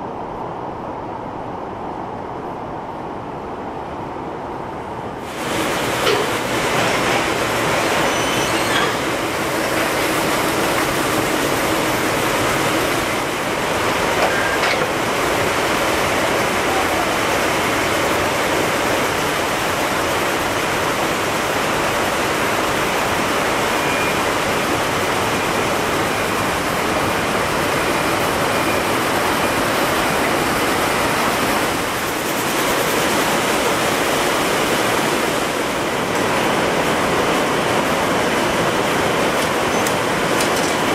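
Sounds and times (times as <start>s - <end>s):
textile mill machinery running: 5.2s - 40.9s.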